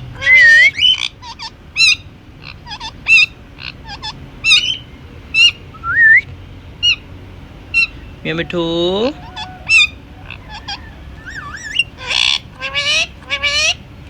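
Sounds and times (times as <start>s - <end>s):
parakeet calling: 0.0s - 14.0s.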